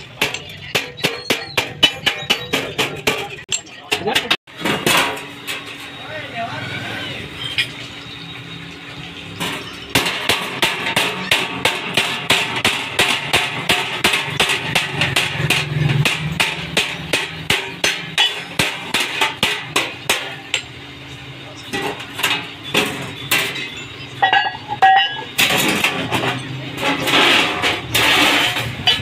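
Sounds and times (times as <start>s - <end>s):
hammer striking metal: 0.0s - 5.8s, 9.3s - 20.9s, 21.5s - 29.0s.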